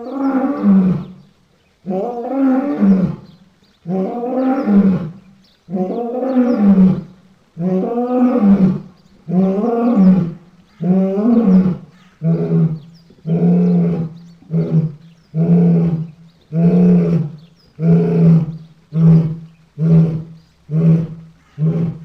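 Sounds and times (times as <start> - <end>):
lion roaring: 3.9 - 22.0.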